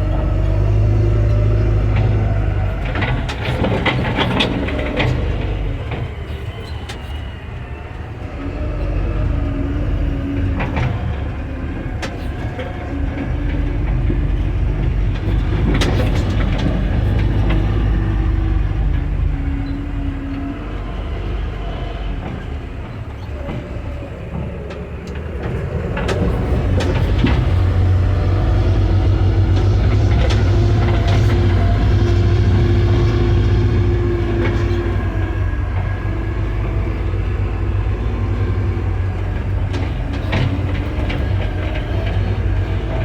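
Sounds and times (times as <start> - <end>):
diesel engine running: 0.0 - 43.0
machine clanks and rattles: 0.0 - 43.0.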